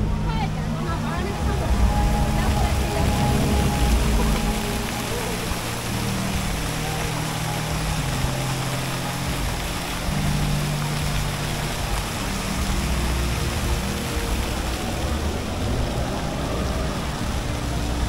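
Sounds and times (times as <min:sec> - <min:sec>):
ambient synthesizer music: 0:00.0 - 0:18.0
steady rushing noise: 0:00.0 - 0:18.0.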